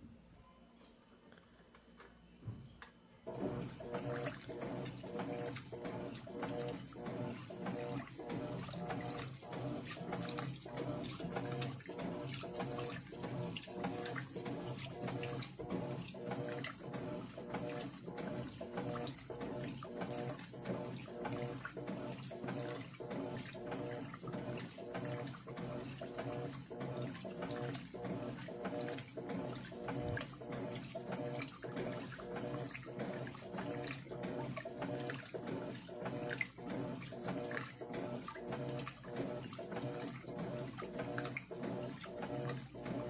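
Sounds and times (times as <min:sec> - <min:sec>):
washing machine motor hum: 0:02.4 - 0:43.0
water sloshing: 0:03.6 - 0:43.0.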